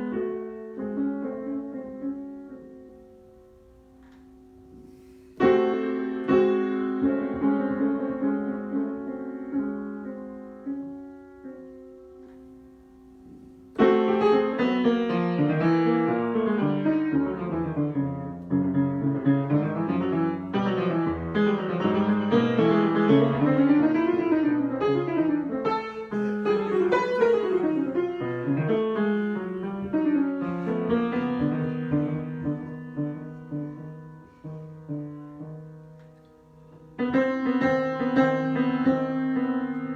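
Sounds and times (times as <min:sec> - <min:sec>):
piano improvisation: 0:00.0 - 0:39.9.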